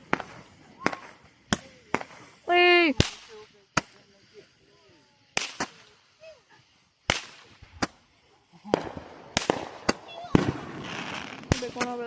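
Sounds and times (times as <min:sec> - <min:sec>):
faint voices: 0:00.0 - 0:12.0
fireworks bangs: 0:00.0 - 0:12.0.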